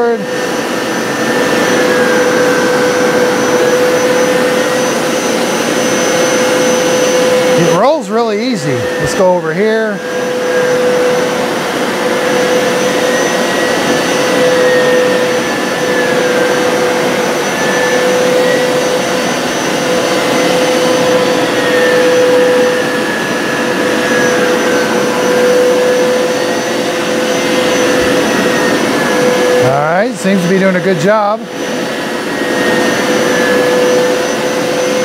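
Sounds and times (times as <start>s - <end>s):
carpet cleaner running: 0.0s - 35.0s.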